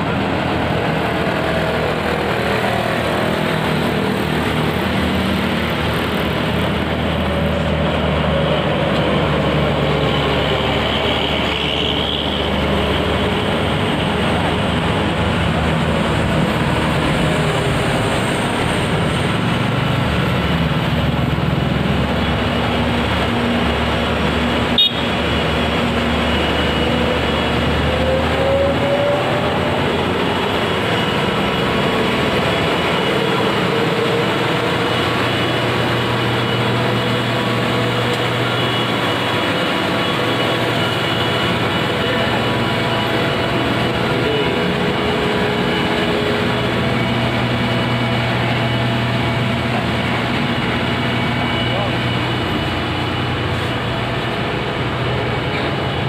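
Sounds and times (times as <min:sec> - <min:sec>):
buses driving past: 0:00.0 - 0:56.0
diesel trucks driving past: 0:00.0 - 0:56.0
motorcycles: 0:00.0 - 0:56.0.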